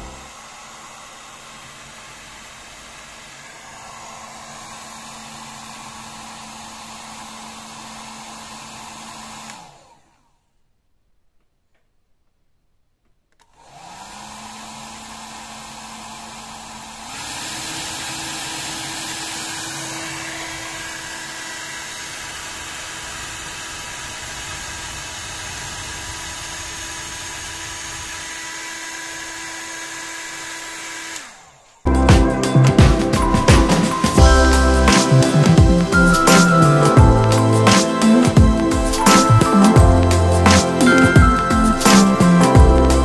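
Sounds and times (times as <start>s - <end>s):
hair dryer motor whine: 0.0s - 10.4s, 13.4s - 43.0s.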